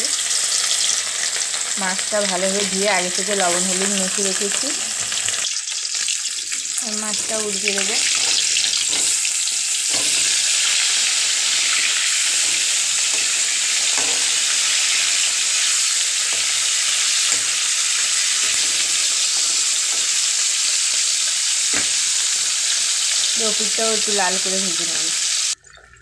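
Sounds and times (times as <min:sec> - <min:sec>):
fish sizzling in hot oil: 0:00.0 - 0:25.6.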